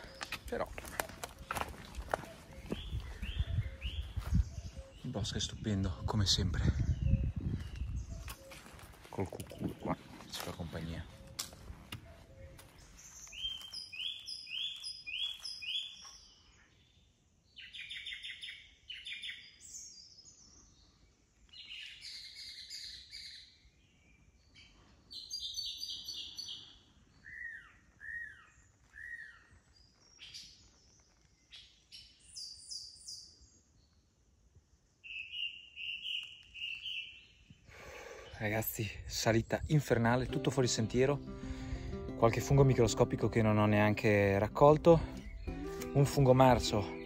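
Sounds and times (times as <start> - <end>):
songbirds singing: 0.0 - 47.0.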